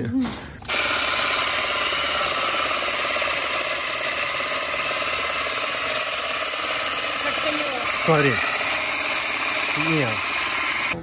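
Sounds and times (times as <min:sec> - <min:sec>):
hedge trimmer cutting shrub: 0:00.7 - 0:11.0.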